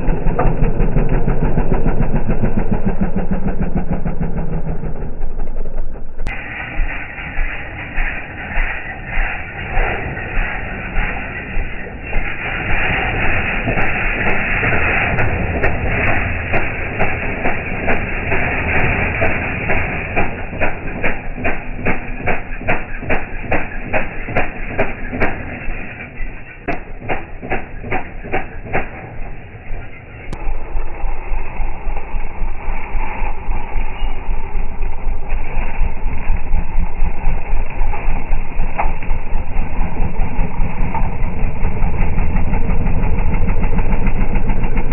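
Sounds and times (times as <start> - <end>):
slowed motorbike engine rumble: 0.0 - 44.9.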